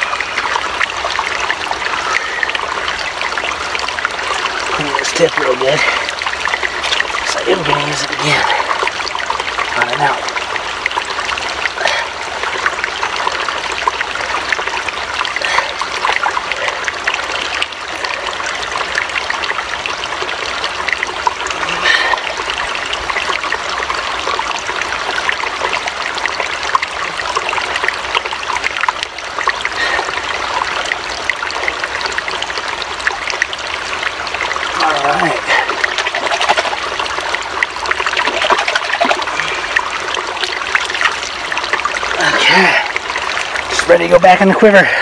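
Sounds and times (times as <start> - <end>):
stream trickling over rocks: 0.0 - 45.0.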